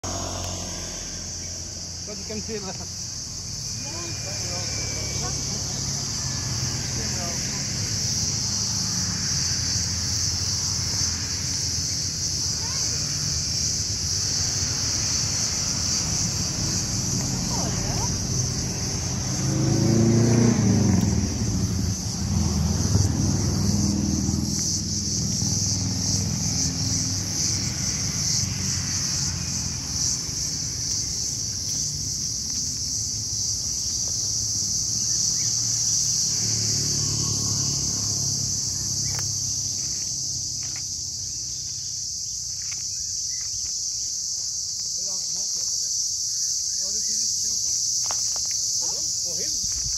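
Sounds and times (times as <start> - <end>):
vehicle engine passing: 0.0 - 42.0
insect chorus: 0.0 - 49.9.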